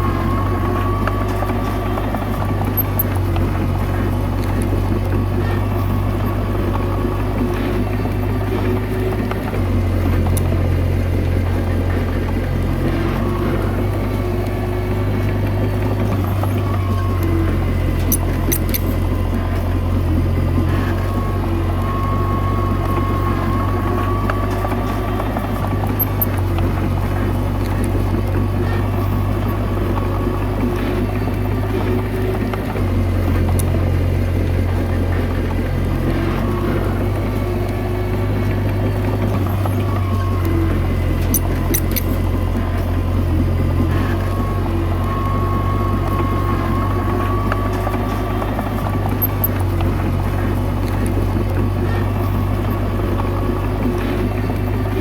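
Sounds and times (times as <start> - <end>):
bulldozer diesel engine running: 0.0 - 55.0
thin whine: 0.0 - 55.0.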